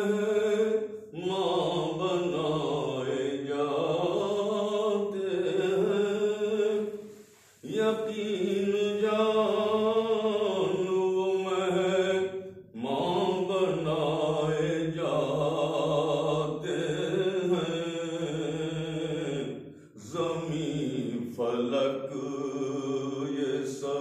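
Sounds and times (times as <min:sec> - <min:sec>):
man chanting unaccompanied: 0:00.0 - 0:07.0, 0:07.6 - 0:24.0.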